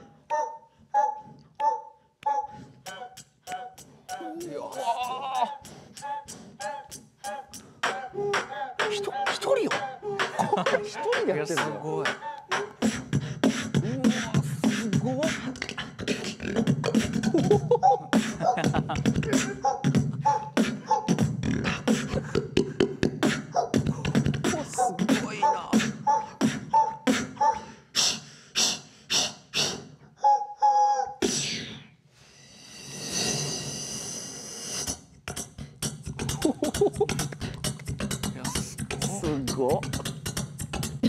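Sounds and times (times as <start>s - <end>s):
beatboxing drum hits: 2.5s - 27.4s, 28.0s - 29.9s, 33.1s - 41.0s.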